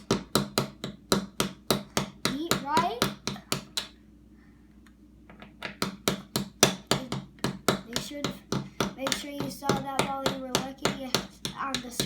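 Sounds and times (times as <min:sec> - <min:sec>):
plastic toy tool tapping: 0:00.0 - 0:04.0, 0:05.3 - 0:12.0.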